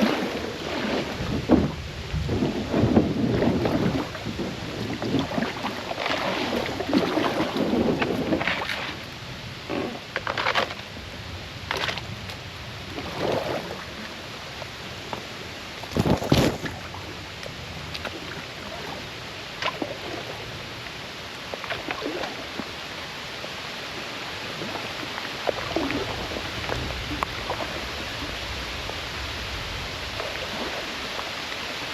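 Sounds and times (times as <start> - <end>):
paddle splashes and knocks: 0.0 - 11.0, 11.6 - 23.3, 24.5 - 31.9
rushing water: 0.0 - 31.9.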